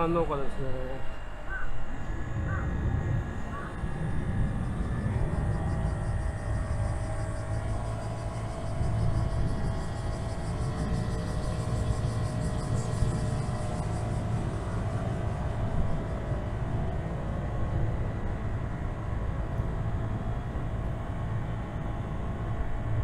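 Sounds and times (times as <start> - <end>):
vehicle engine and road rumble: 2.0 - 23.0.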